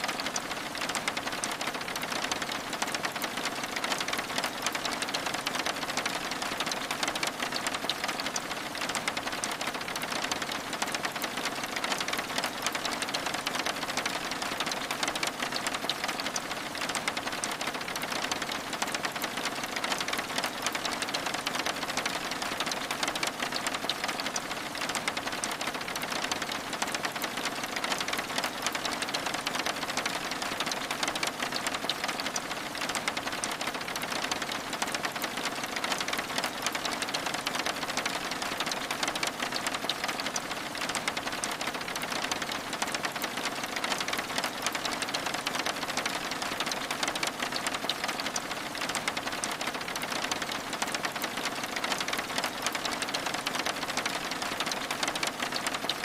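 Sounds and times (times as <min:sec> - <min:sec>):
rain pattering on window glass: 0:00.0 - 0:56.0.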